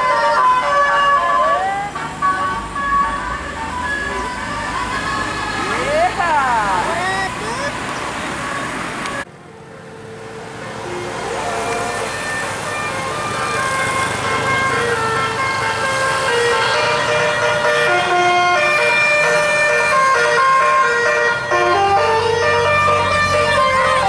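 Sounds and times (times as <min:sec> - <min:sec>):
multi-tone vehicle horn melody: 0:00.0 - 0:08.6, 0:10.8 - 0:24.0.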